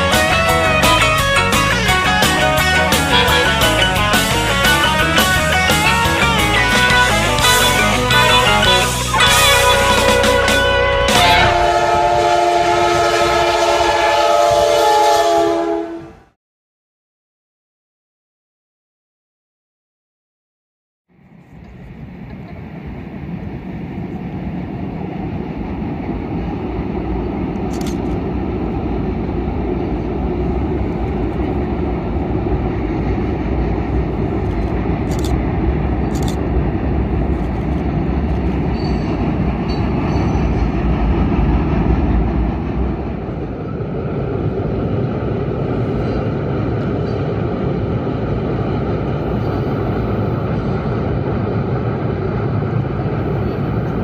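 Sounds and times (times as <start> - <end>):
freight train rumbling on bridge: 0.0 - 16.4, 21.1 - 54.0.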